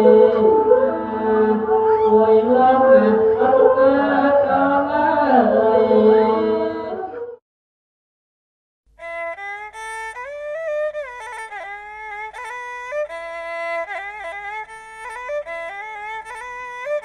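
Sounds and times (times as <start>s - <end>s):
bowed fiddle melody: 0.0s - 7.0s, 9.0s - 17.0s.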